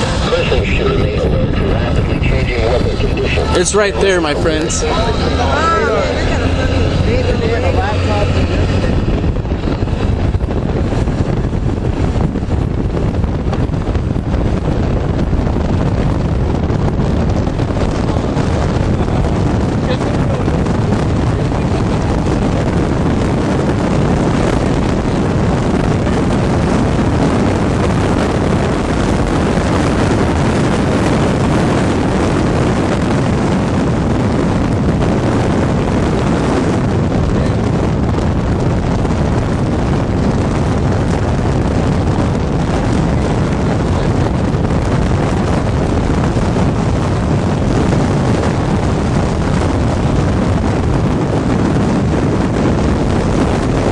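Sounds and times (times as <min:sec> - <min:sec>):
loud wind rush and rumble: 0:00.0 - 0:53.9.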